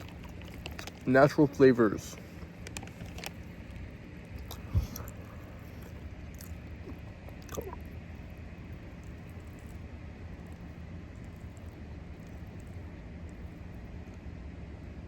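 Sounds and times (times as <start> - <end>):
quiet chewing: 0.0 - 14.3
steady low hum: 0.0 - 15.0.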